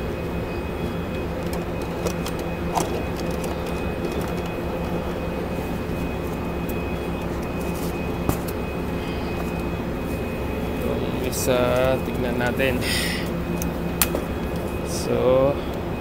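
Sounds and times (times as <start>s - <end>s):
factory machinery drone: 0.0s - 16.0s.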